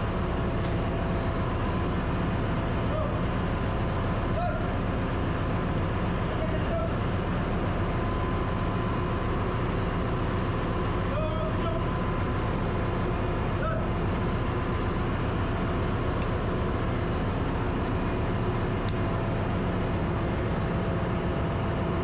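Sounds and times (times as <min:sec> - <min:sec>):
engine room machinery hum: 0:00.0 - 0:22.0.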